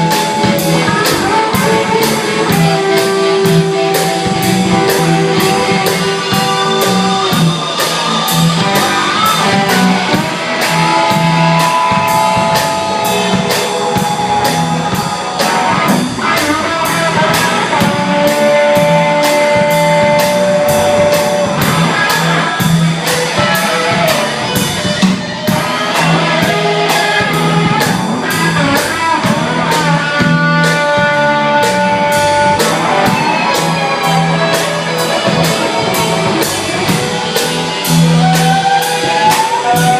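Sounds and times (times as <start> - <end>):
electric guitar lead notes: 0.0 - 39.9
low repeating riff: 0.0 - 39.9
steady drum beat: 0.0 - 39.9.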